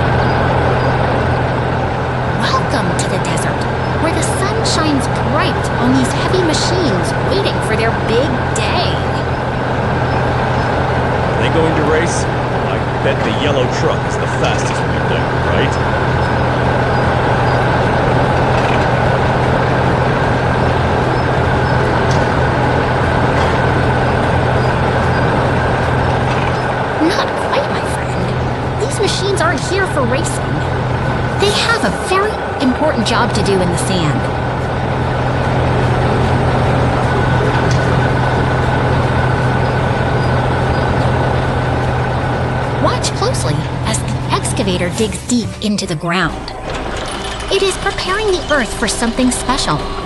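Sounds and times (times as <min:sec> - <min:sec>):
faint steady whine: 0:00.0 - 0:50.0
heavy construction machine engines: 0:00.0 - 0:50.0.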